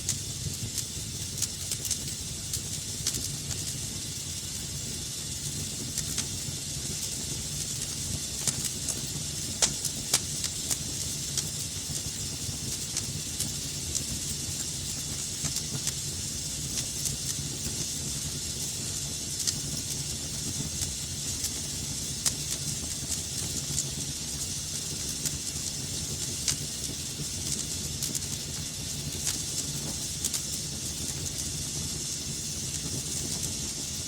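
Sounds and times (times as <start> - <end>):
fire crackling: 0.0 - 34.0.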